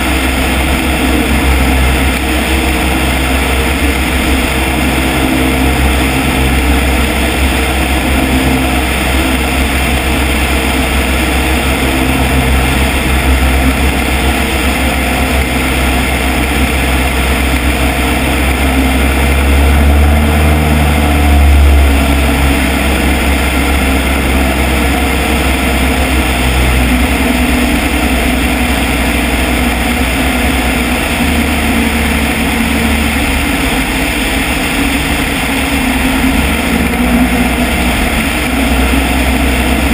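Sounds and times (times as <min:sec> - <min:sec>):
light airplane engine droning: 0:00.0 - 0:39.9
wind rushing over microphone: 0:00.0 - 0:39.9.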